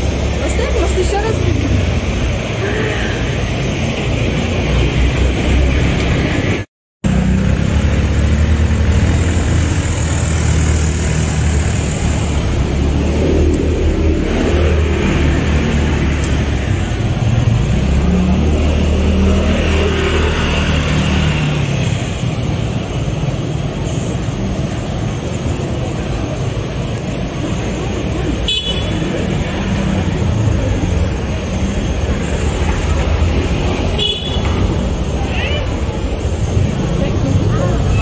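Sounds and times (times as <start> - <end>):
road traffic engines humming: 0.0 - 38.0.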